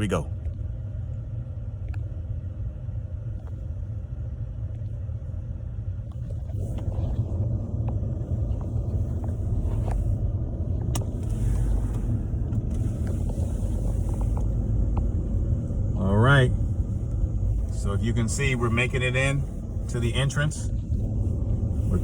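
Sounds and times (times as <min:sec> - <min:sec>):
car cabin rumble: 0:00.0 - 0:22.0
tyres on icy snowy road: 0:00.0 - 0:22.0.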